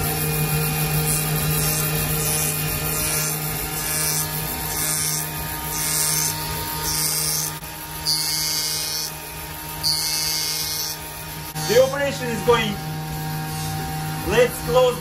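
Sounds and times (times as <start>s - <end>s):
machine whine: 0.0s - 15.0s.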